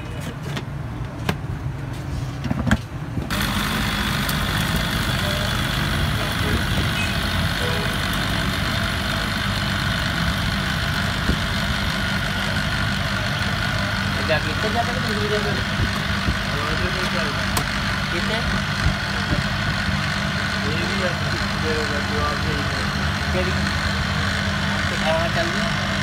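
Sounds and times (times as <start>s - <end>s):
blender motor running: 3.3s - 26.0s.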